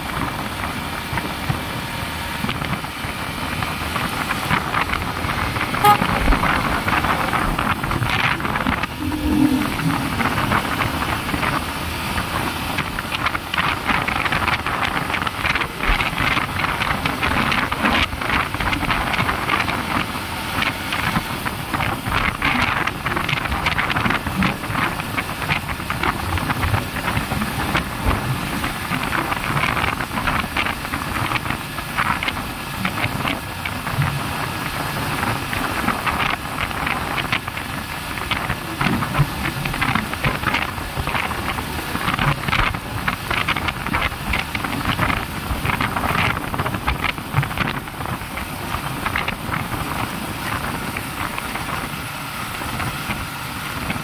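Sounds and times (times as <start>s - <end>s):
motorcycle engine riding: 0.0s - 54.0s
wind rushing over microphone: 0.0s - 54.0s.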